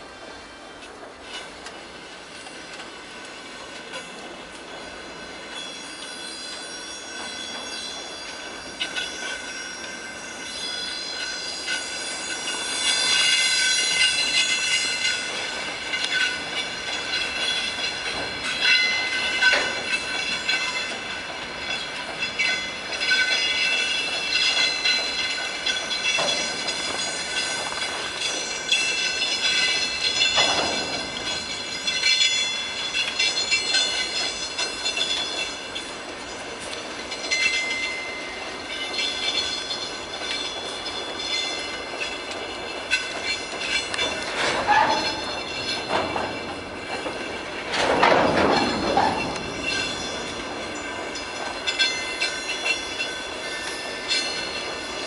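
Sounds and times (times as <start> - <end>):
train wheels squealing on rails: 0.0 - 55.0
wheels and couplings clanking: 0.0 - 55.0.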